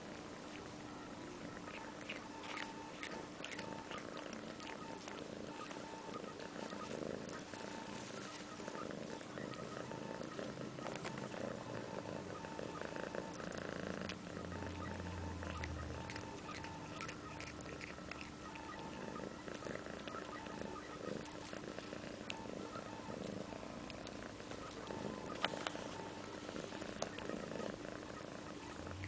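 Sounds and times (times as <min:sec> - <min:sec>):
cat chewing grass: 0:00.0 - 0:29.0
cat purring: 0:00.0 - 0:29.0.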